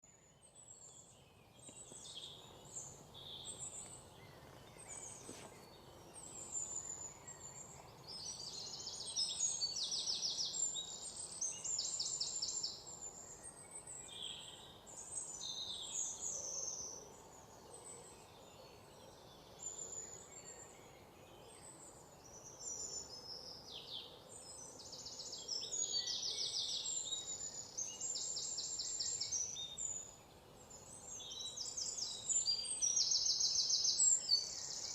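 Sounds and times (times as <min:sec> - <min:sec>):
faint outdoor background: 0:00.0 - 0:34.9
songbirds chirping and trilling: 0:00.0 - 0:34.9.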